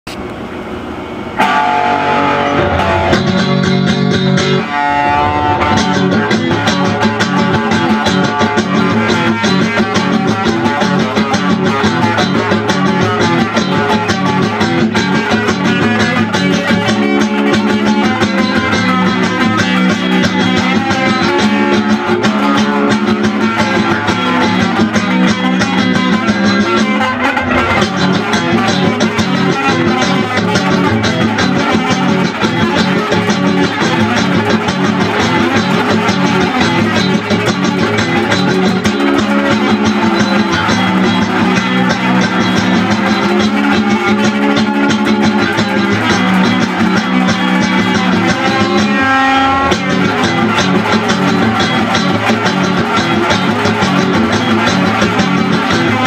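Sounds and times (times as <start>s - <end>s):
electric guitar rock music: 1.4s - 56.0s.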